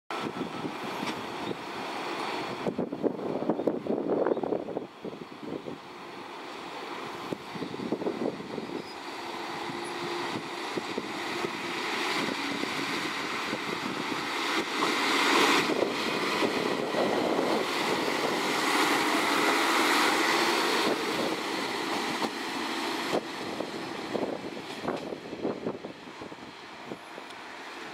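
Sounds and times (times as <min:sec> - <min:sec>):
diesel railcar engine passing: 0:00.1 - 0:27.9.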